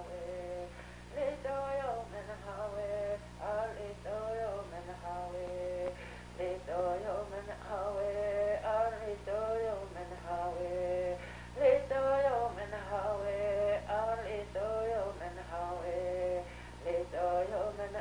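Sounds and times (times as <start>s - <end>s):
person singing: 0.0s - 18.0s
steady low hum: 0.0s - 18.0s.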